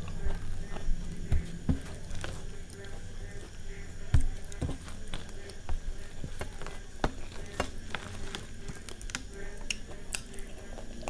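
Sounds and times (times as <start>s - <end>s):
wet food squishing: 0.0s - 11.0s.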